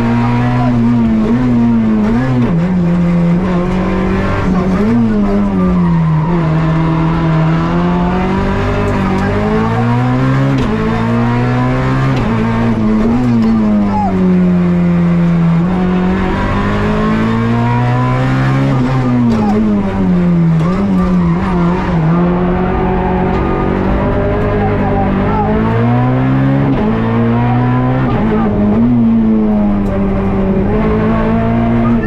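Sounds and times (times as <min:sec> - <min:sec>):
rally car engine at high revs: 0:00.0 - 0:32.0.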